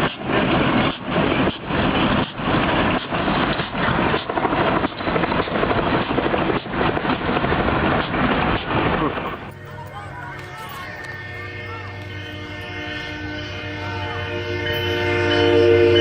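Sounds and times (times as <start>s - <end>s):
train running past: 0.0s - 16.0s.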